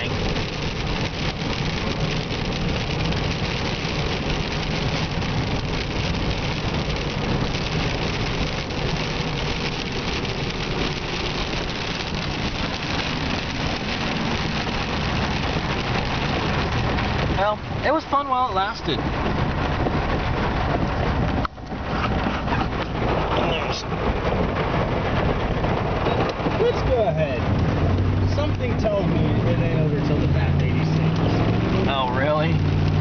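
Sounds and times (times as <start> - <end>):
car driving on wet road: 0.0 - 33.0
rain hiss: 0.0 - 33.0.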